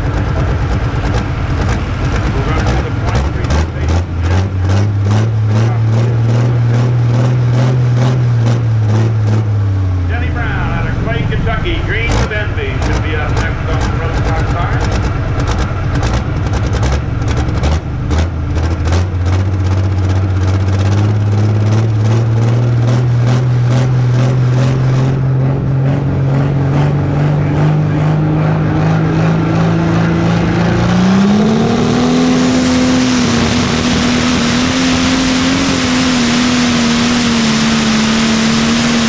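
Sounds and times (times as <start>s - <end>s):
diesel engine clattering and revving: 0.0s - 39.0s.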